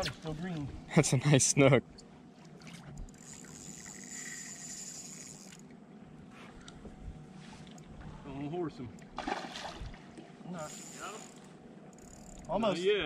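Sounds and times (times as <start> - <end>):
water lapping around boat: 2.0 - 12.5.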